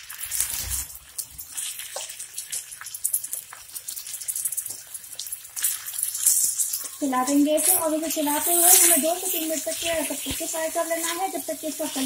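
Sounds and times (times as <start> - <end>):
liver sizzling in hot oil: 0.0 - 12.0.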